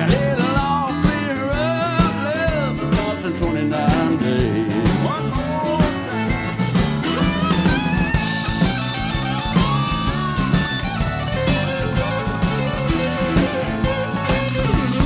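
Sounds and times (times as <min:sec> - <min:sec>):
bass: 0:00.0 - 0:15.0
drum kit: 0:00.0 - 0:15.0
electric guitars: 0:00.0 - 0:15.0
sliding lead melody: 0:00.0 - 0:15.0.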